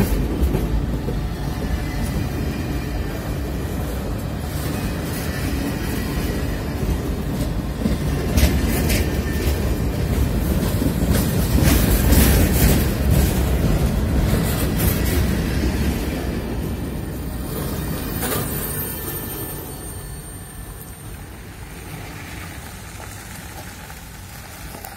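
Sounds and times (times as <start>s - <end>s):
steel wheels rumbling on rail: 0.0s - 24.9s
train cars clicking and clanking: 0.0s - 24.9s.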